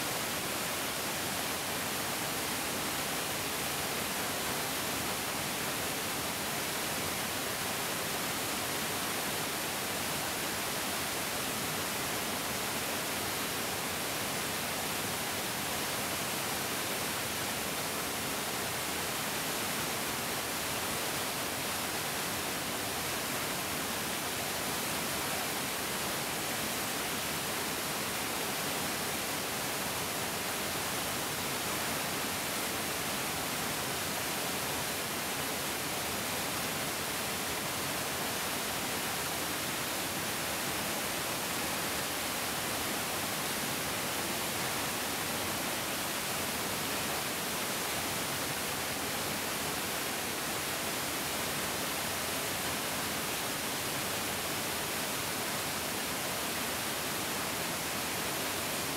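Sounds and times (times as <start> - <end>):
mountain stream rushing: 0.0 - 58.9.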